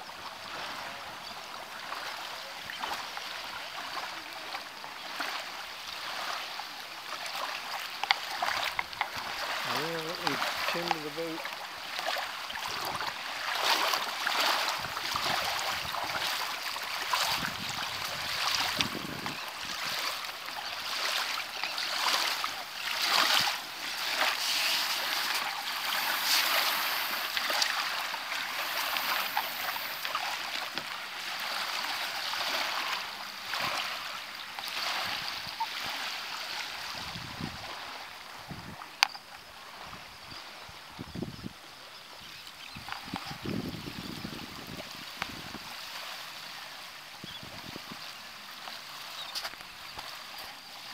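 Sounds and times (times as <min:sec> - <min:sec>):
small waves washing on shore: 0:00.0 - 0:50.9.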